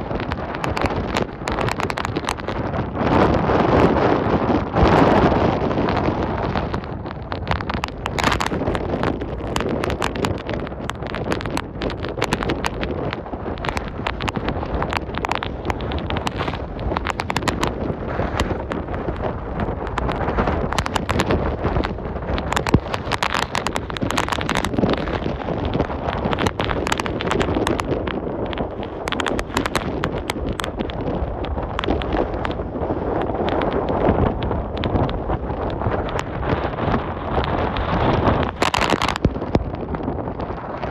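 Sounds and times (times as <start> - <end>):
wind gusts buffeting microphone: 0.0 - 40.9.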